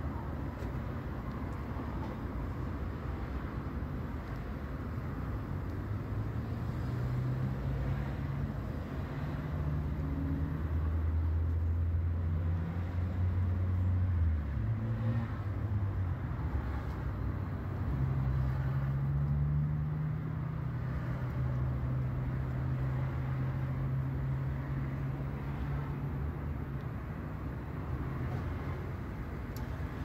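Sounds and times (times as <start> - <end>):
vehicle engines humming in traffic: 0.0 - 30.0.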